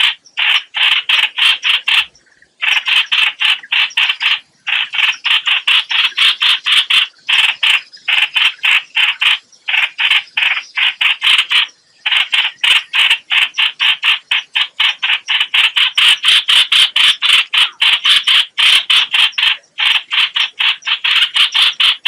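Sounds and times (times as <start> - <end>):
harsh scratchy bird call: 0.0 - 22.0.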